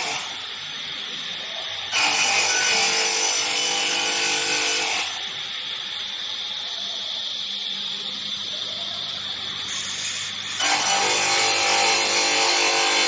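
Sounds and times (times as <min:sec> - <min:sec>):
cnc router cutting wood: 0:00.0 - 0:13.0.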